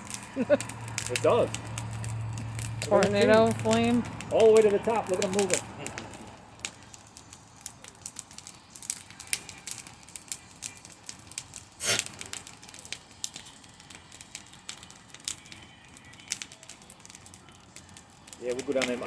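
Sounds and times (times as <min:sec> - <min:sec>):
burning wood popping: 0:00.0 - 0:19.0
campfire crackling: 0:00.0 - 0:19.0.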